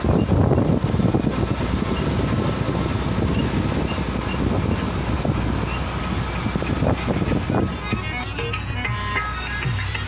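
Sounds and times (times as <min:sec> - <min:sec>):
road and tyre rumble: 0:00.0 - 0:10.0
truck engine drone: 0:00.0 - 0:10.0.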